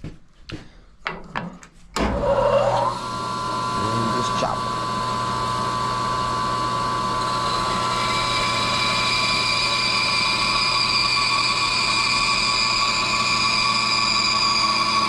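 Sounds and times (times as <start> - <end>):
bandsaw cutting wood: 2.1 - 15.0.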